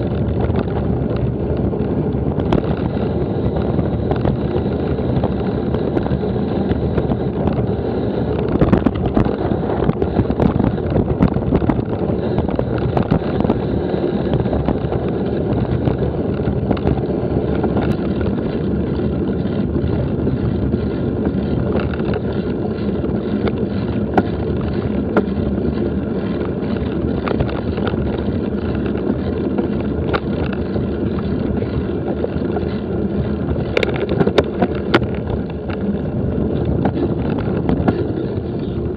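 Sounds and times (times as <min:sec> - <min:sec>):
bicycle tyre rumble: 0:00.0 - 0:38.9
bike rattling and knocking: 0:00.0 - 0:38.9
wind buffeting microphone: 0:00.0 - 0:38.9.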